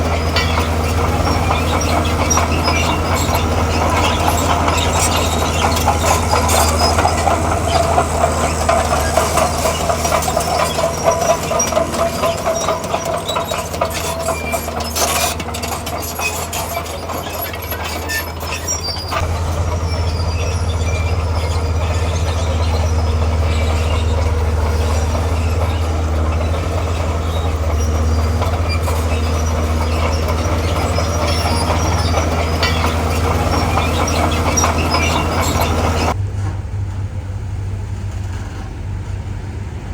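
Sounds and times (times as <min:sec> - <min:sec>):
bulldozer diesel engine: 0:00.0 - 0:39.9
steel tracks clanking and squealing: 0:00.0 - 0:39.9.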